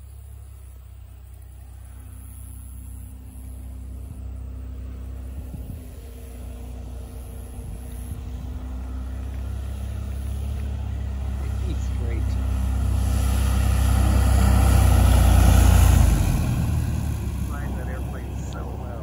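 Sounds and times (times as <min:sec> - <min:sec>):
light aircraft propeller humming: 0:00.0 - 0:19.0.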